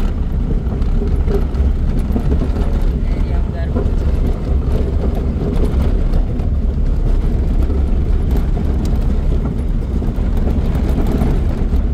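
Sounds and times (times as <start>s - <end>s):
car engine and tyres rumbling: 0.0s - 11.9s.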